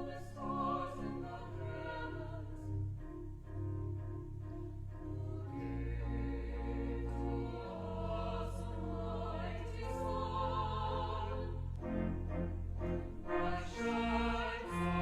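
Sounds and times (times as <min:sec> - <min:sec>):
choir singing held chords: 0:00.0 - 0:15.0
sustained low accompaniment: 0:00.0 - 0:15.0.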